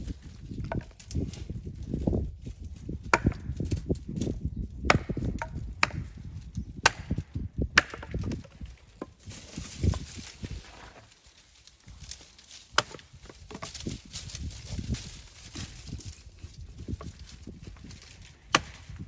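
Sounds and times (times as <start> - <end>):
dry sticks cracking: 0.0 - 19.0.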